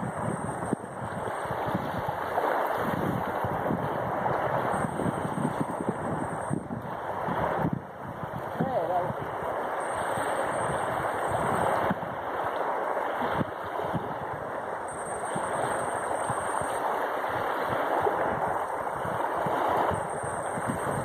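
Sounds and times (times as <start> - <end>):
lake waves lapping on sandy shore: 0.0 - 21.0
wind: 0.0 - 21.0.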